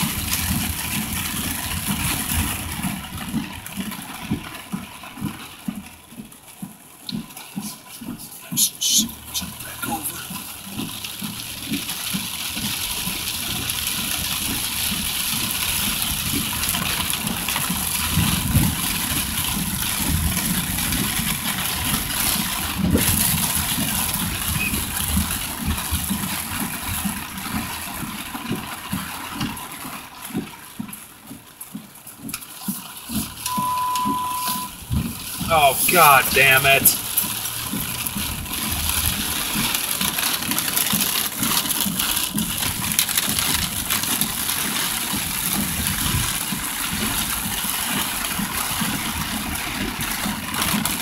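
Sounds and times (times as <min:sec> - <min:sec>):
heavy rain on car roof: 0:00.0 - 0:51.0.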